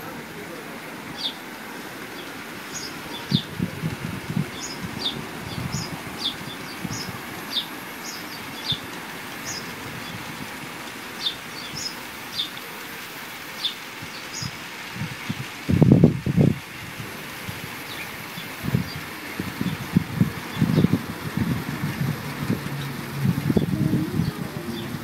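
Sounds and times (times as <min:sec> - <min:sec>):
model train rumbling on track: 0:00.0 - 0:13.6, 0:16.9 - 0:25.0
outdoor hiss: 0:00.0 - 0:25.0.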